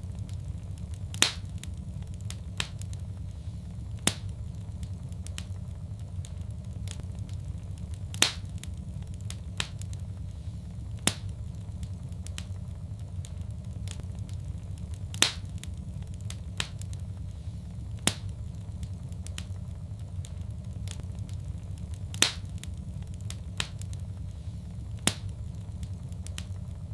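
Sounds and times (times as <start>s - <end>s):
fire crackling and popping: 0.0s - 26.9s
steady low rumble: 0.0s - 26.9s.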